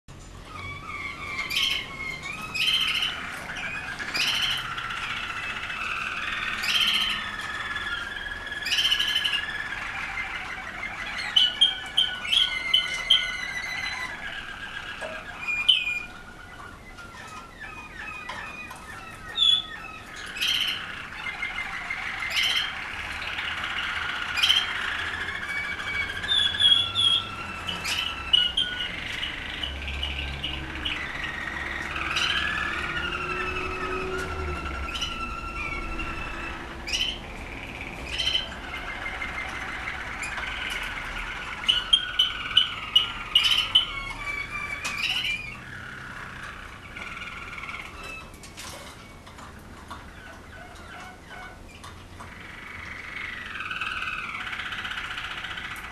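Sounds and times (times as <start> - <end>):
canaries singing: 0.1 - 55.9.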